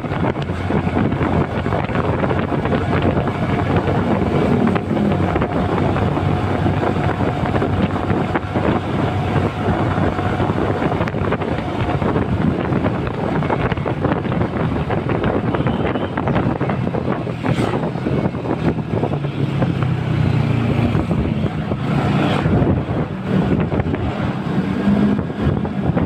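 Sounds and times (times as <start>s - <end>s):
motorcycle engine running: 0.0s - 26.0s
wind buffeting on microphone: 0.0s - 26.0s.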